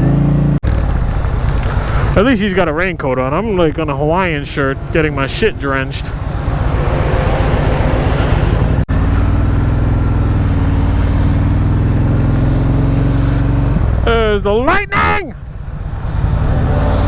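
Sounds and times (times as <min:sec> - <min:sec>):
motorcycle engine cruising: 0:00.0 - 0:14.7, 0:15.3 - 0:17.0
wind and road noise: 0:00.0 - 0:17.0.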